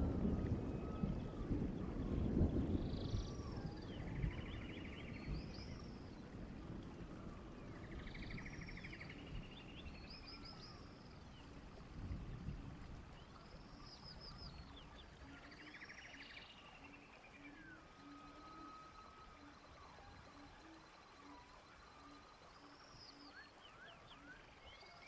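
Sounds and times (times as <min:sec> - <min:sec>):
faint low rumble: 0:00.0 - 0:23.7.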